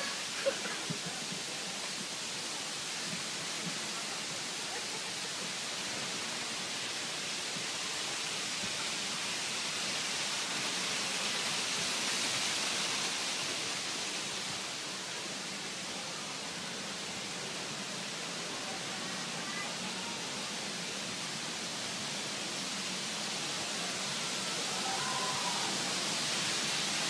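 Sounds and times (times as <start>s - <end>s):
steady rushing hiss: 0.0s - 27.0s.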